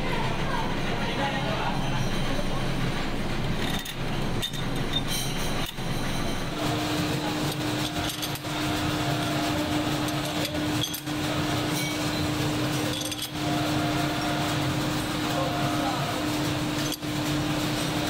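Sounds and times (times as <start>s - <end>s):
constant machine tone: 0.0s - 18.0s
factory machinery humming: 0.0s - 18.0s.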